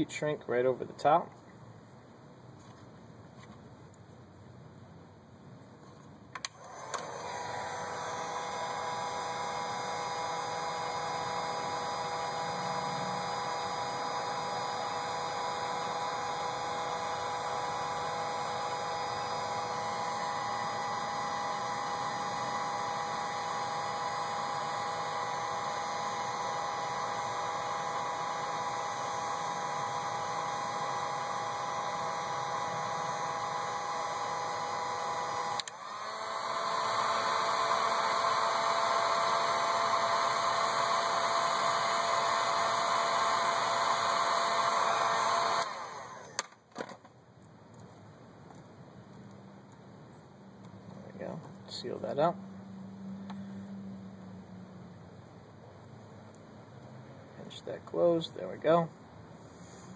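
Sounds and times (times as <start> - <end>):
heat gun fan whirring: 6.3 - 47.1, 50.6 - 54.7, 56.0 - 59.9.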